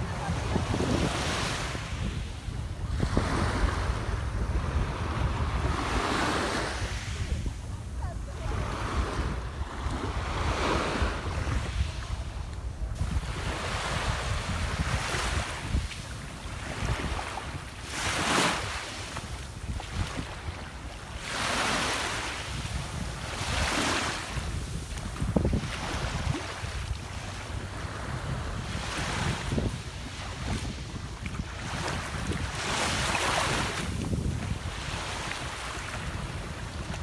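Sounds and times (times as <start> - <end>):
waves breaking and washing in: 0.0 - 37.0
wind rumble on microphone: 0.0 - 37.0.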